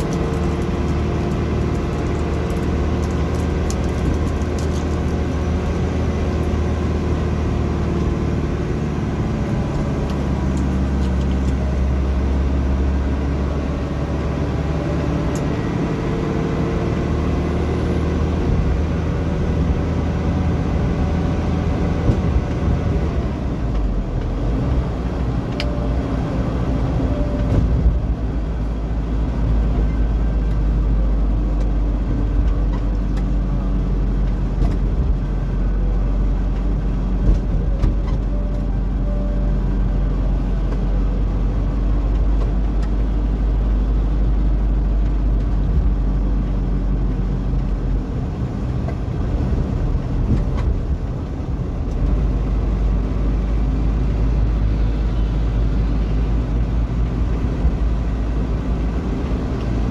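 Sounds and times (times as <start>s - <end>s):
vehicle engine and road drone: 0.0s - 59.9s.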